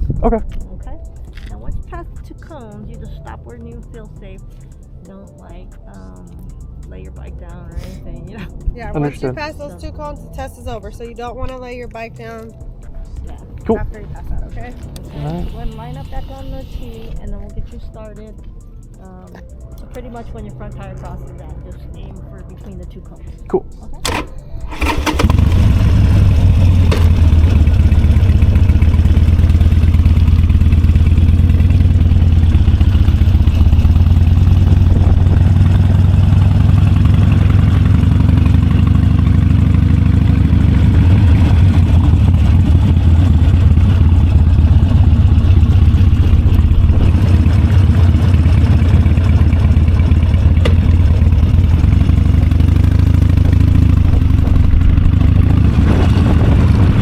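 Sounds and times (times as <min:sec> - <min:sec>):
motorcycle engine idling low: 0:00.0 - 0:57.0.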